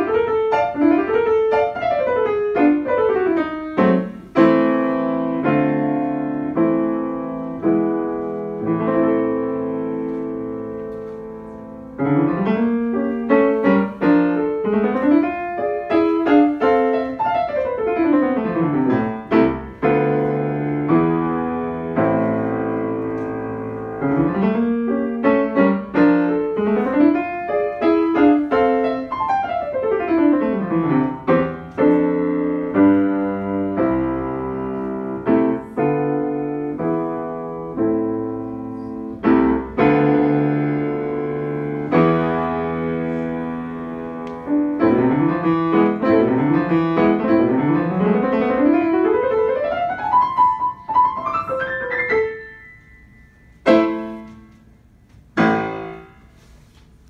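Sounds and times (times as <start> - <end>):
fast grand piano playing: 0.0 - 57.0.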